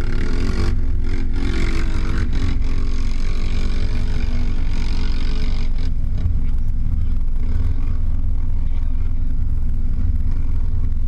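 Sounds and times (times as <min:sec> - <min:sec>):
atv engine revving: 0:00.0 - 0:11.0
idling engine rumble: 0:00.0 - 0:11.0.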